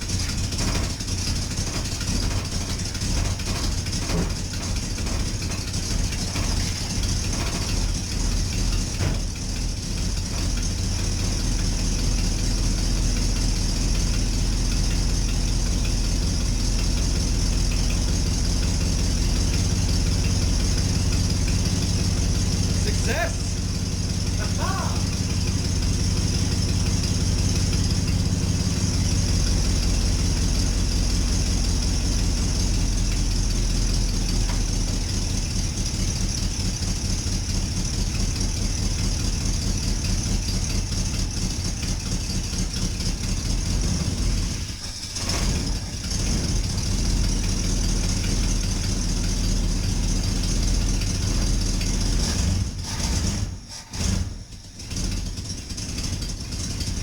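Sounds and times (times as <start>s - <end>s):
rough engine idling: 0.0s - 57.0s.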